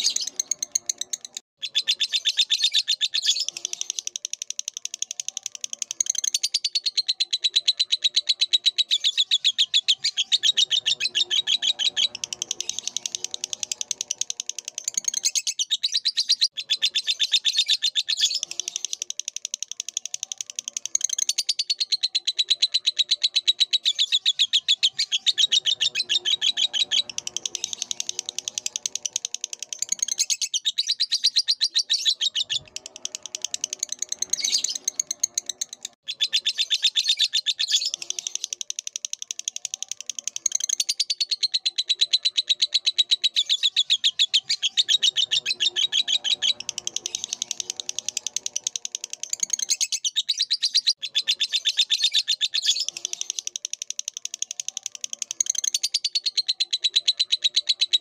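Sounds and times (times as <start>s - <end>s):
bird chirping rapidly: 0.0s - 58.0s
lower bird chatter: 0.0s - 58.0s.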